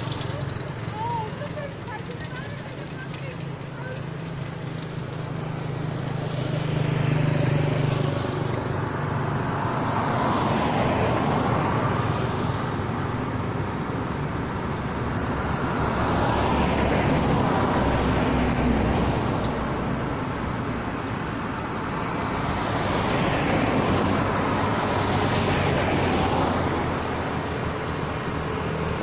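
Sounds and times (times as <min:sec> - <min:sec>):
cars passing on road: 0:00.0 - 0:29.0.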